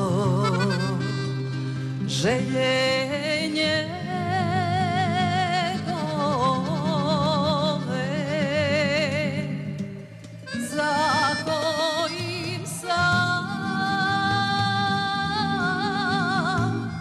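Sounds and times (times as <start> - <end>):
accordion: 0.0 - 17.0
woman singing with vibrato: 0.0 - 17.0.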